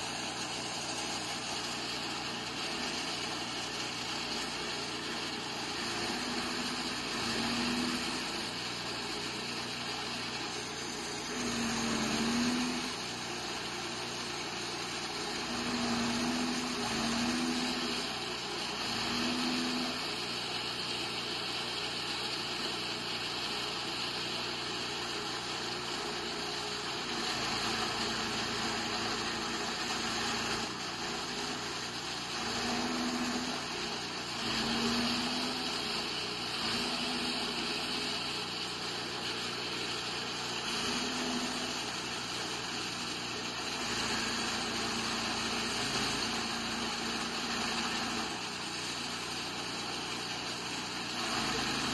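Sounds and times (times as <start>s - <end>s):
chaff cutter running: 0.0s - 51.9s.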